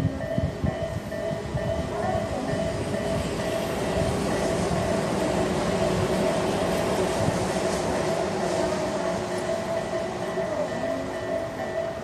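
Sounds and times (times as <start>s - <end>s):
level crossing warning bell dinging: 0.0s - 12.0s
train rumbling past: 0.0s - 12.0s.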